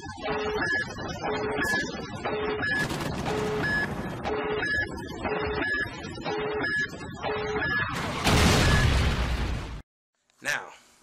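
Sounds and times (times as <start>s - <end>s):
electronic beeps over clattering hits: 0.0s - 9.2s.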